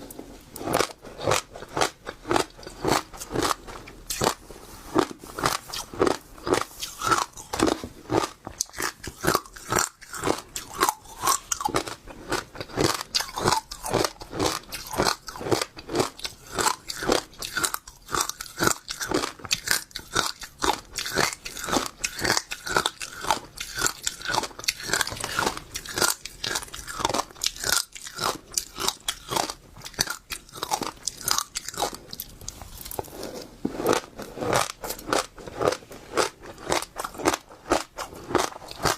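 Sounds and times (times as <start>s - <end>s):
seeds crunching between teeth: 0.0s - 38.9s.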